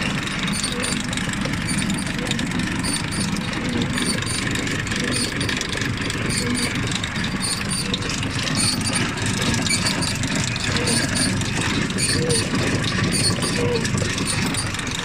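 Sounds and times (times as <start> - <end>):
baler mechanism ticking: 0.0 - 15.0
tractor engine running: 0.0 - 15.0.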